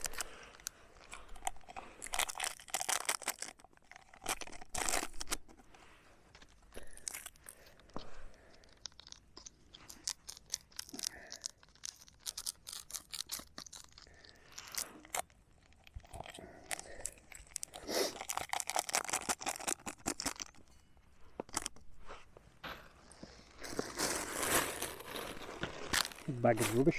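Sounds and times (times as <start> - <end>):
chewing crunchy biscuit: 0.0 - 26.9.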